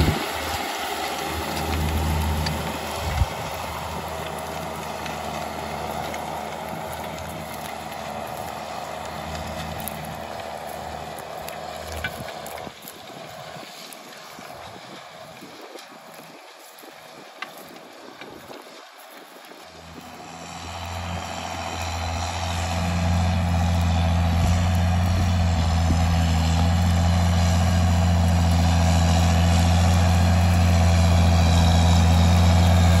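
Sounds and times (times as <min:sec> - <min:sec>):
cultivator mechanical rattle: 0:00.0 - 0:33.0
tractor diesel engine under load: 0:00.0 - 0:33.0.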